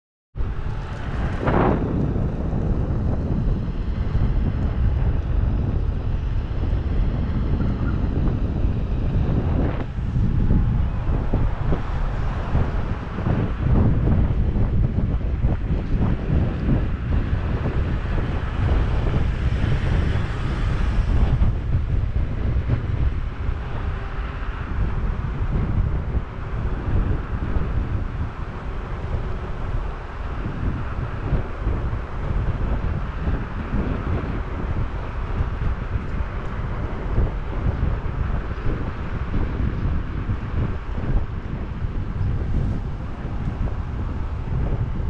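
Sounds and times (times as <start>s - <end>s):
wind rumbling over microphone: 0.4s - 45.0s.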